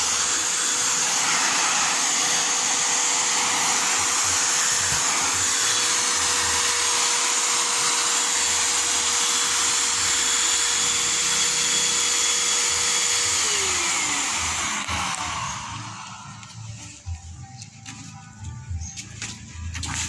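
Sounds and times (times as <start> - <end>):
vacuum cleaner motor whining: 0.0 - 16.9.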